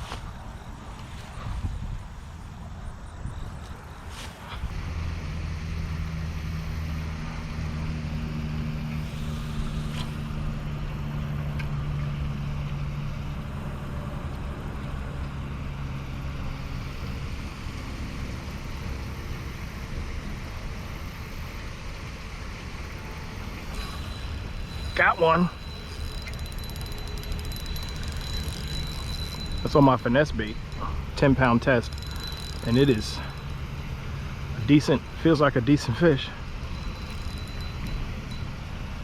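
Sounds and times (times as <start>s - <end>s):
outdoor background noise: 0.0s - 39.0s
motor vehicle engine humming: 3.2s - 39.0s.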